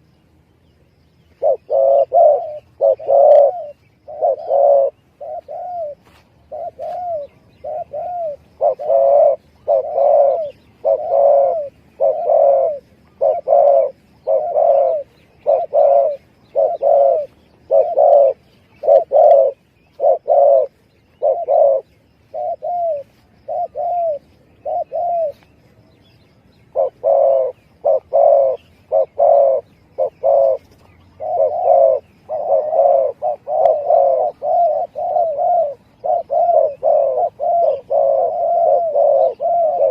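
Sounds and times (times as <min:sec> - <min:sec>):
dove cooing: 0:01.3 - 0:39.9.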